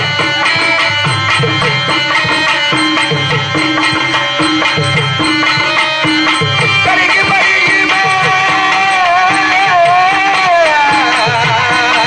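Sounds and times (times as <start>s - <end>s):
hand drum rhythm: 0.0s - 12.0s.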